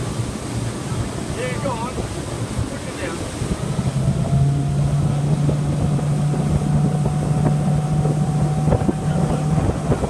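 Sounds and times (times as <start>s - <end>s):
motorboat engine drone: 0.0s - 10.0s
water noise: 0.0s - 10.0s
wind on microphone: 0.0s - 10.0s.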